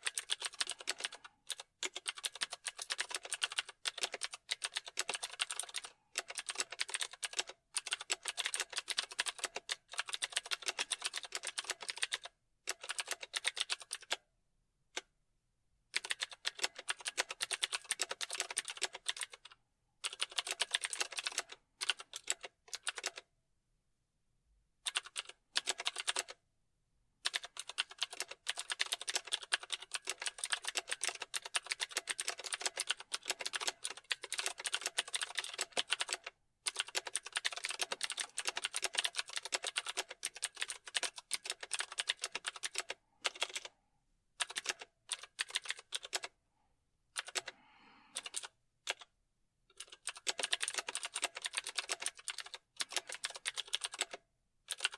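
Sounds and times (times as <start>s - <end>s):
computer keyboard typing: 0.0s - 14.2s, 15.9s - 23.3s, 24.9s - 26.4s, 27.2s - 43.7s, 44.4s - 46.4s, 47.2s - 47.5s, 48.1s - 49.1s, 49.7s - 54.9s.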